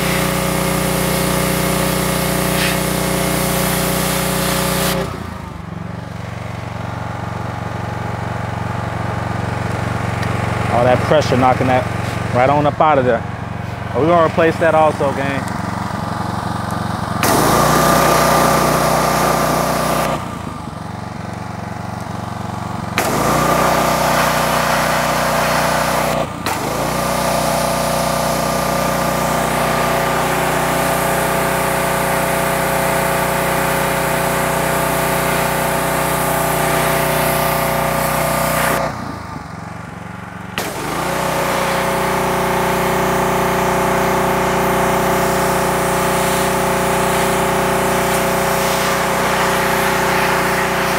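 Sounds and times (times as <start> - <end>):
pressure washer spraying: 0.0 - 5.5, 9.7 - 12.5, 13.6 - 39.3, 40.6 - 50.9.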